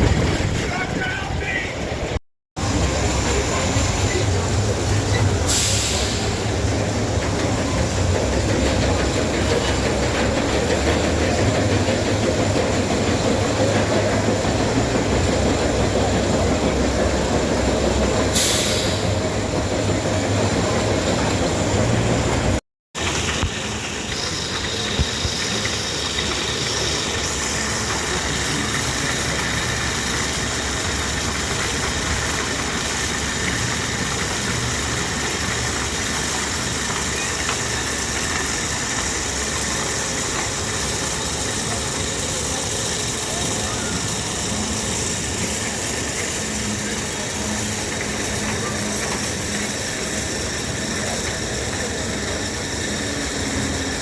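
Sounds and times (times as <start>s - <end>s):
roller coaster rumbling on track: 0.0s - 54.0s.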